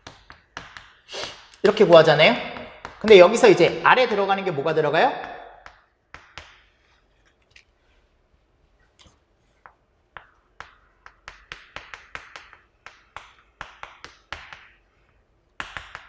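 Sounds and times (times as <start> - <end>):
chalk tapping on chalkboard: 0.0 - 7.0, 9.6 - 16.0.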